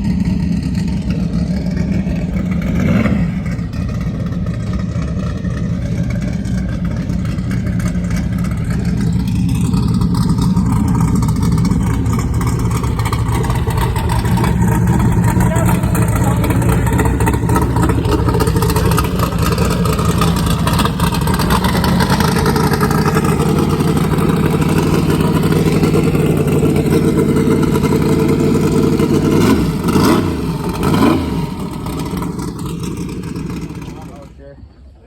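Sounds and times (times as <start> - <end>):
jet boat engine running: 0.0 - 35.0.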